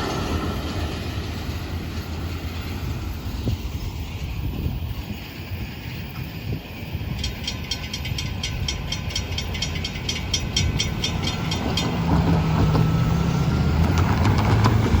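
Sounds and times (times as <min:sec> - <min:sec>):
wheels clicking over rail joints: 0:00.0 - 0:15.0.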